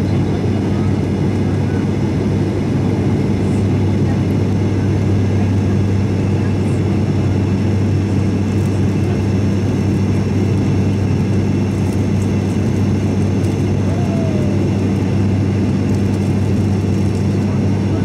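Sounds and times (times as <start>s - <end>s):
engine and airflow rush: 0.0s - 18.0s
propeller hum: 0.0s - 18.0s.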